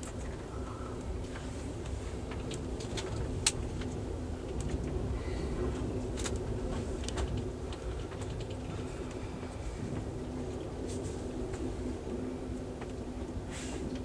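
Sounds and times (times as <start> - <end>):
train car rumble and hum: 0.0 - 14.0.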